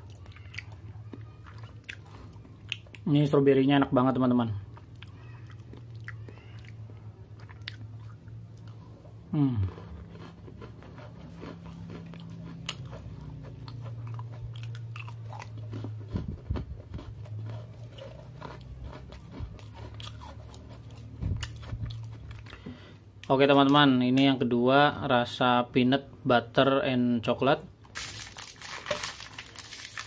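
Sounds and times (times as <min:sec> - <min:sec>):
cookie crunching while chewed: 0:00.0 - 0:03.3, 0:04.2 - 0:24.3, 0:27.8 - 0:30.0.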